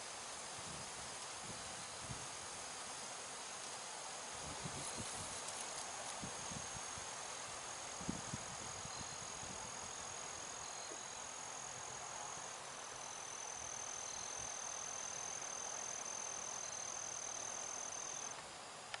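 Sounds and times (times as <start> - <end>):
faint outdoor hiss: 0.0 - 19.0
insect trill: 0.0 - 19.0.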